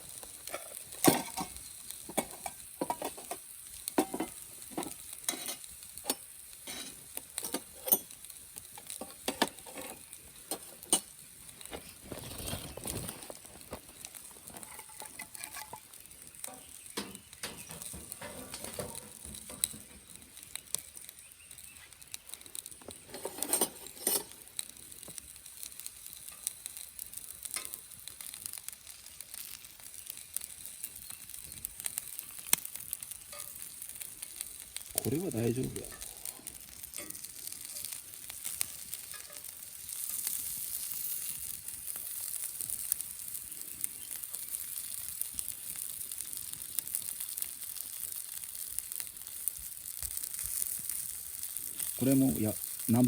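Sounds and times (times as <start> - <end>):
fire popping and crackling: 0.0 - 53.0
sausages sizzling in a pan: 0.0 - 53.0.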